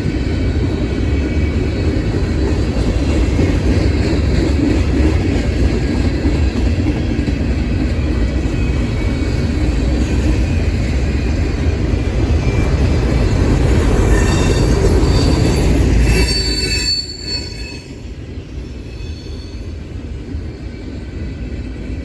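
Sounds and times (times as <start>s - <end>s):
train passing with low rumble: 0.0s - 22.0s.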